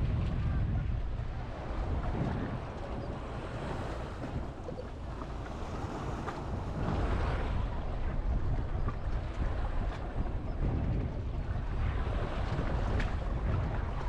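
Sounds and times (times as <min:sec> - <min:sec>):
small waves washing ashore: 0:00.0 - 0:14.0
wind rumbling on microphone: 0:00.0 - 0:14.0.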